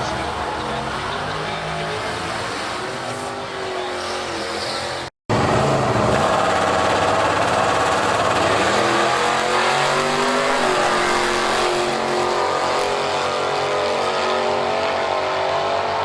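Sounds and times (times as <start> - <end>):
drag racing car engines accelerating: 0.0 - 16.0.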